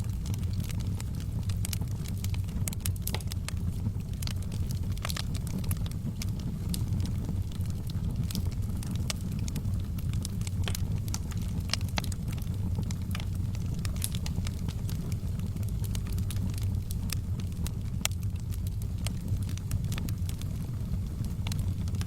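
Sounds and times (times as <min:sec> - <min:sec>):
low rumble of flames: 0:00.0 - 0:22.0
wood logs burning and crackling: 0:00.0 - 0:22.0.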